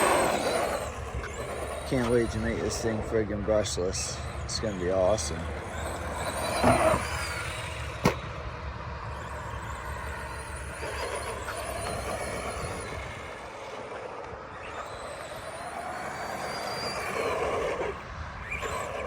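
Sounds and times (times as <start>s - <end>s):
electric motor whining: 0.0s - 19.0s
tyres rumbling over ground: 0.0s - 19.0s.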